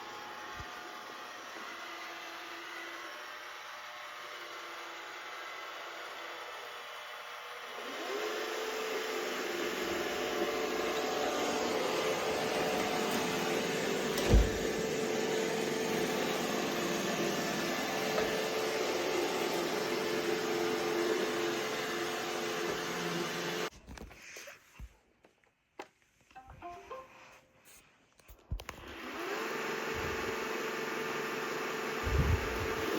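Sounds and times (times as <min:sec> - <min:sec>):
robot vacuum whirring: 0:00.0 - 0:23.7, 0:28.5 - 0:32.9.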